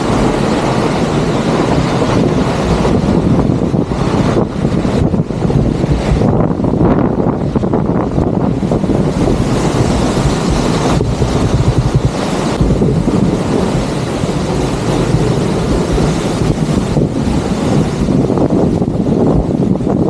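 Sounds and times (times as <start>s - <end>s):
waterfall rushing: 0.0s - 20.0s
wind buffeting microphone: 0.0s - 20.0s.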